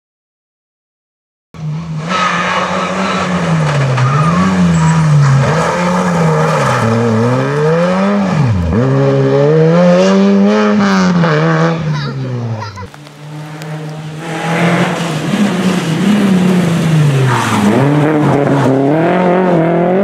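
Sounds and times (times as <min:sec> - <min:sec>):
rally car engine revving: 0:01.6 - 0:20.0.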